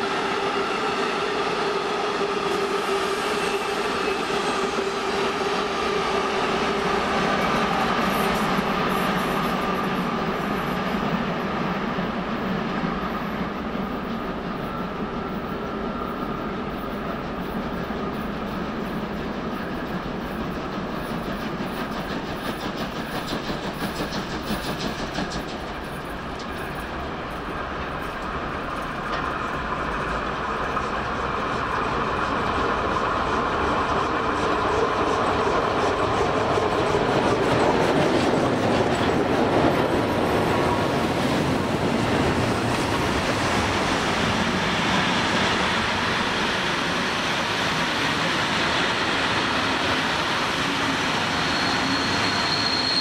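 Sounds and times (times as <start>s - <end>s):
steam locomotive passing: 0.0s - 53.0s
train wheels clacking over rails: 0.0s - 53.0s.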